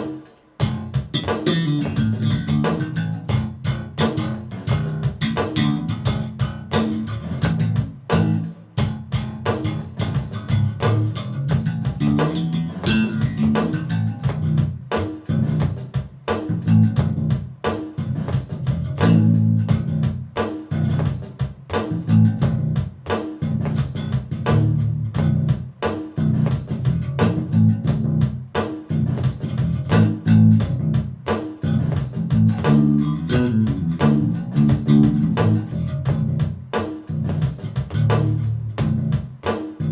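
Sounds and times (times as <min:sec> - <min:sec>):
electric bass plucked notes: 0:00.6 - 0:39.9.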